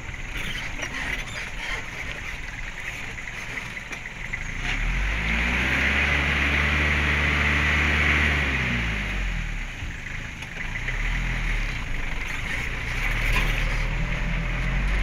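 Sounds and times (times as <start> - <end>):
road rumble on dirt track: 0.0 - 15.0
vehicle engine revving: 0.0 - 15.0.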